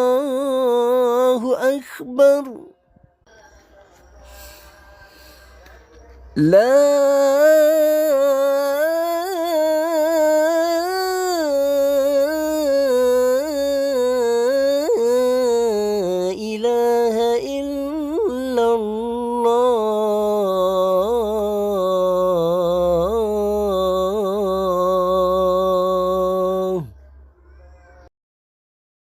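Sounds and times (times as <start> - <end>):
man chanting call to prayer: 0.0 - 2.8, 6.3 - 28.1.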